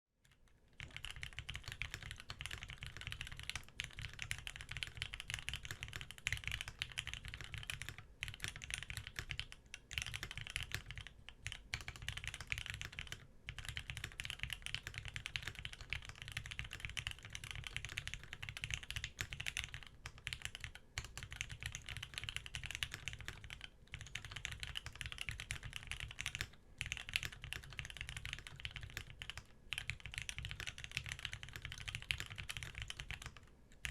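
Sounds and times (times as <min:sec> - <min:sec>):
mechanical keyboard typing: 0:00.2 - 0:33.9.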